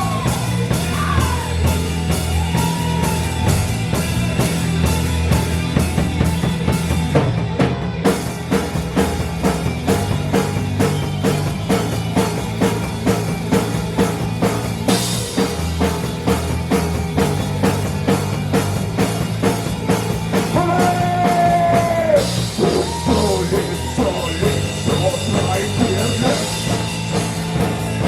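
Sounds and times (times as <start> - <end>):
drum kit beat: 0.0 - 28.0
heavy guitar chords: 0.0 - 28.0
rock band playing: 0.0 - 28.0.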